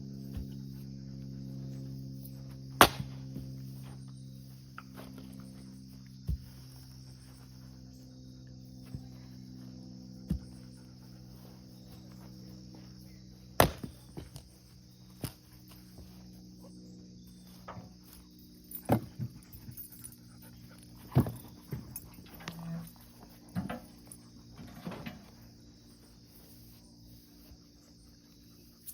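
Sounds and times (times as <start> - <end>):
high insect buzz: 0.0 - 28.9
steady low hum: 0.0 - 28.9.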